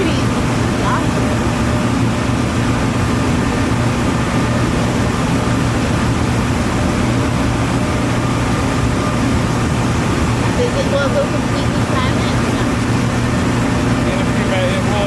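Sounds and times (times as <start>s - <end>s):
heavy machinery droning: 0.0s - 15.0s.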